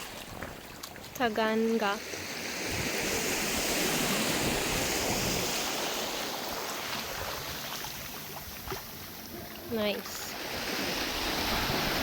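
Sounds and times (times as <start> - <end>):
sea waves washing on beach: 0.0 - 12.0.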